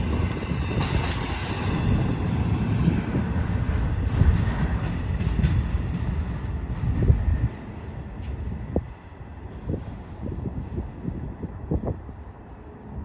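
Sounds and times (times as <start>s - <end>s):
freight train rumbling past: 0.0s - 13.0s
wind buffeting microphone: 0.0s - 13.0s.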